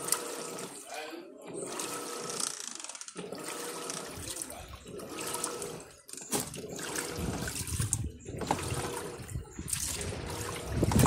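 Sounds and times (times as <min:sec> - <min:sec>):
washing machine water sloshing: 0:00.0 - 0:02.4, 0:03.2 - 0:11.0.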